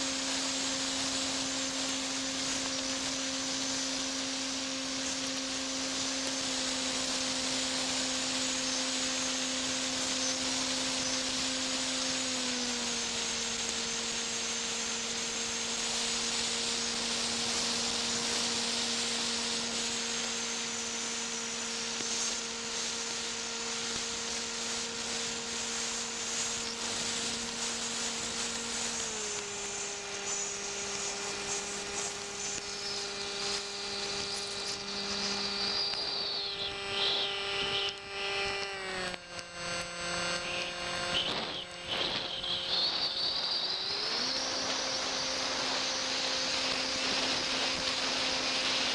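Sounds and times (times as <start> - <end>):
airflow and rain hissing on microphone: 0.0 - 38.6, 40.5 - 48.9
high whine sliding down: 0.0 - 48.9
model aeroplane motor humming: 0.0 - 48.9.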